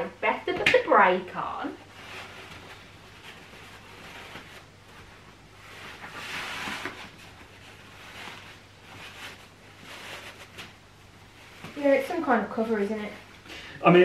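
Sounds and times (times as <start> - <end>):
fabric rustling: 0.9 - 13.4.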